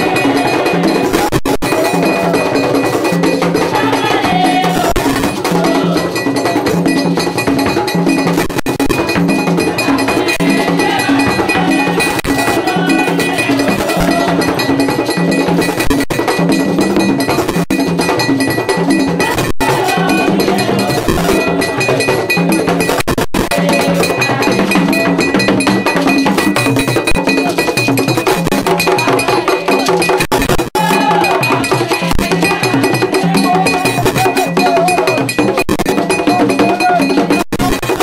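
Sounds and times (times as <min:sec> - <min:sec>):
clanging metal bell: 0:00.0 - 0:38.0
group singing: 0:00.0 - 0:38.0
percussion: 0:00.0 - 0:38.0.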